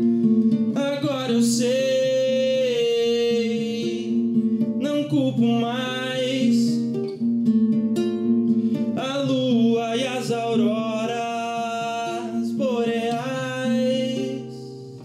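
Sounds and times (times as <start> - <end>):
fingerpicked acoustic guitar: 0.0 - 15.0
man singing: 0.7 - 7.0, 8.9 - 15.0.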